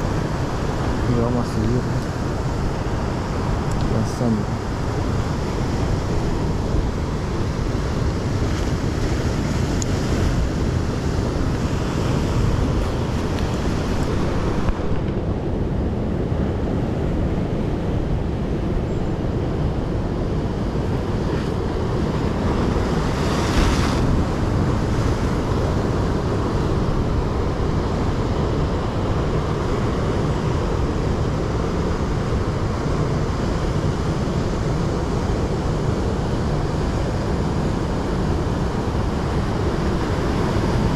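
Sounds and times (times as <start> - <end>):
waves crashing on rocks: 0.0 - 40.9
wind rumbling on microphone: 0.0 - 40.9.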